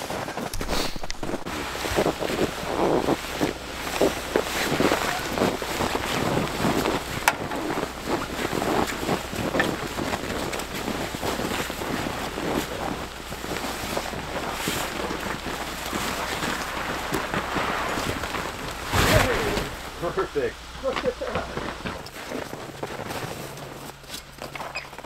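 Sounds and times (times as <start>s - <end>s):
fabric tent dragged across snow: 0.0s - 25.0s
wind rumbling on microphone: 0.0s - 25.0s.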